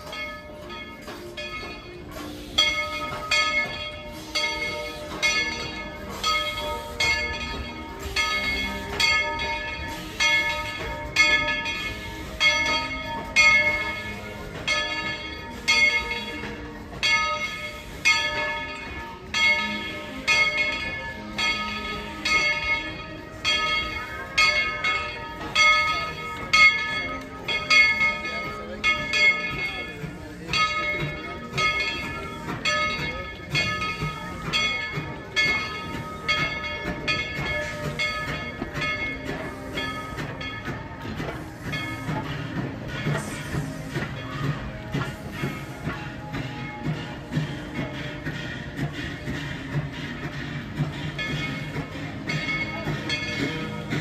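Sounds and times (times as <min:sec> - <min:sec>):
steam locomotive bell ringing: 0:00.0 - 0:54.0.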